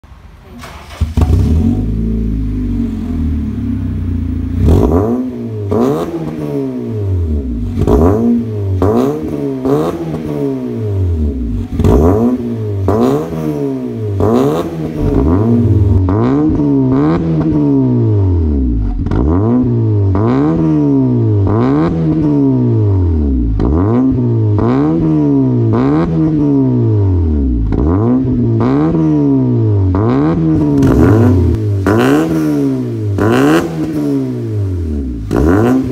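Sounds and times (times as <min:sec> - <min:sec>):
car engine revving: 0:00.6 - 0:35.9.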